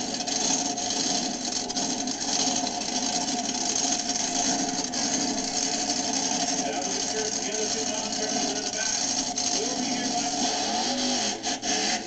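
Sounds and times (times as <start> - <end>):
steady droning tone: 0.0 - 11.8
truck engine running: 0.0 - 12.0.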